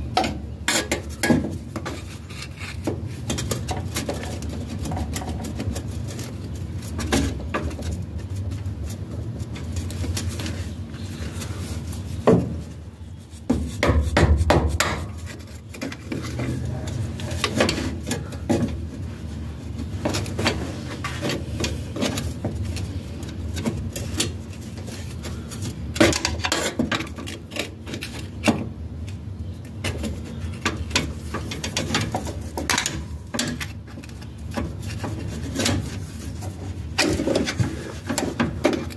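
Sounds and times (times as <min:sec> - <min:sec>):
metallic clicks and scraping: 0:00.1 - 0:38.9.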